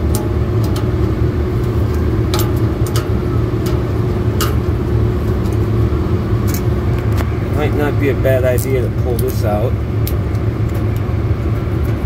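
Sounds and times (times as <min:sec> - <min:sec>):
refrigeration equipment rumbling: 0:00.0 - 0:12.0.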